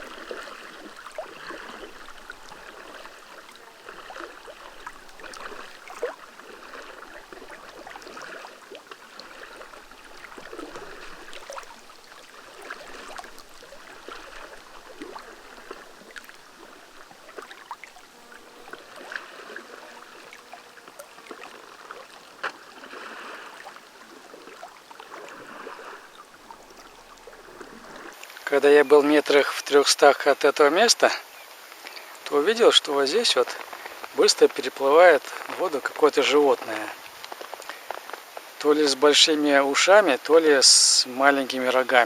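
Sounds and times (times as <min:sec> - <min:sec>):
water splashing around kayak: 0:00.0 - 0:42.0.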